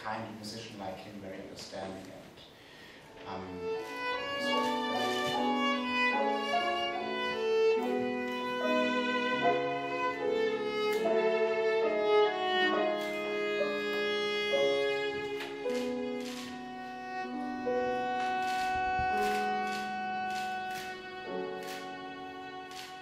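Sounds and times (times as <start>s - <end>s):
piano accompaniment: 3.0s - 23.0s
viola bowed melody: 3.2s - 23.0s.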